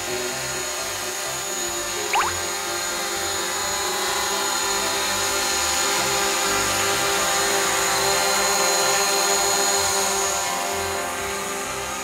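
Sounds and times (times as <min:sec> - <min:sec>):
background music: 0:00.0 - 0:12.0
drone propeller whine: 0:00.0 - 0:12.0.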